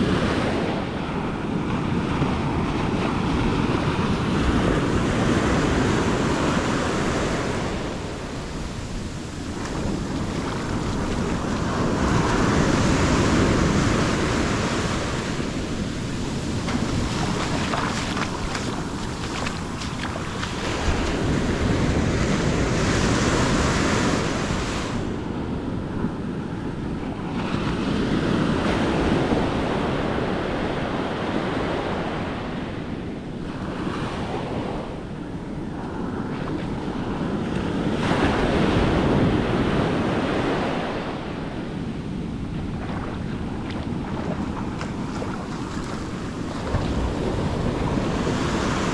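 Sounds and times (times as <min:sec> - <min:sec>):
surf washing up beach: 0:00.0 - 0:48.9
wind rumble on microphone: 0:00.0 - 0:48.9.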